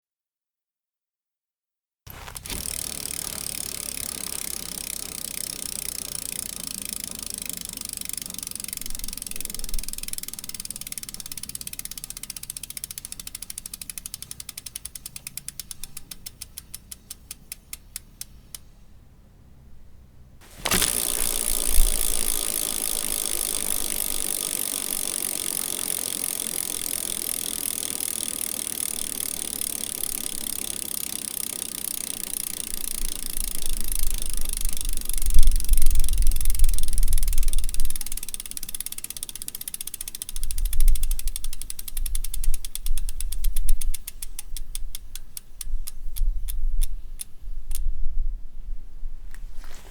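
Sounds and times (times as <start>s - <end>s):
bicycle freewheel ratchet clicking: 2.1s - 18.8s, 20.4s - 48.0s.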